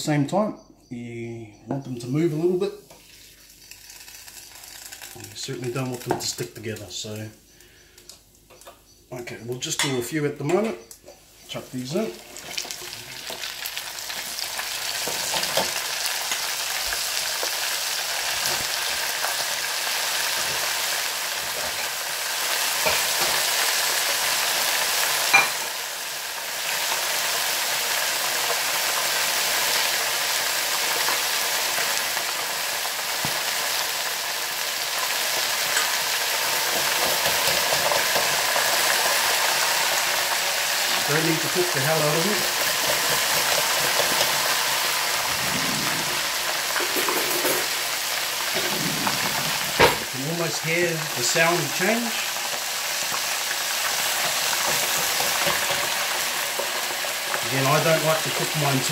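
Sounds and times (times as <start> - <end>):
oil sizzling and bubbling: 2.1 - 8.9, 10.6 - 58.9.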